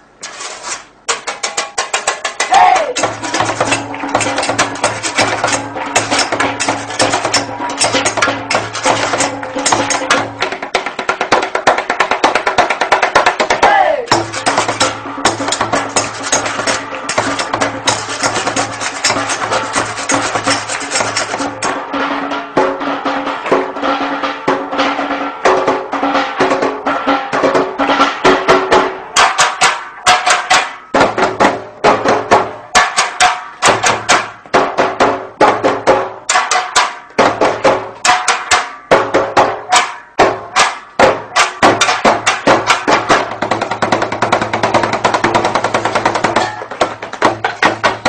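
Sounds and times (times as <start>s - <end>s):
drumming on pots and pans: 1.0s - 48.0s.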